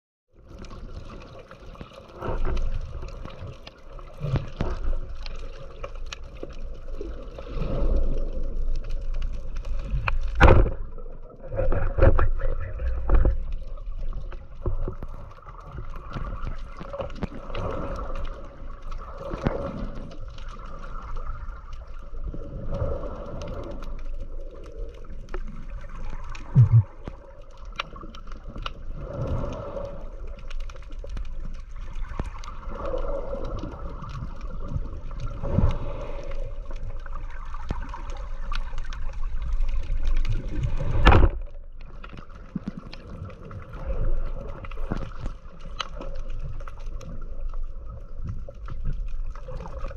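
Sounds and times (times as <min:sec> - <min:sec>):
water swishing and gurgling underwater: 0:00.3 - 0:49.9.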